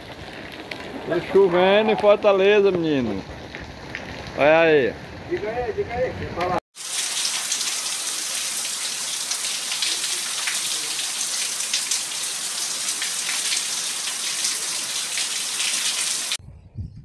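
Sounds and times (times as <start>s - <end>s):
water streaming off roof and splashing: 0.0s - 5.8s, 6.4s - 16.4s
heavy rain pouring: 0.0s - 16.4s.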